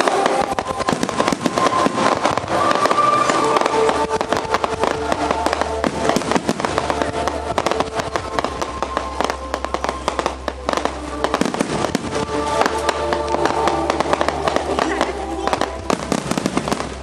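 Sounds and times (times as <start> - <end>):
fireworks crackling and banging: 0.0 - 17.0
music playing: 0.0 - 17.0.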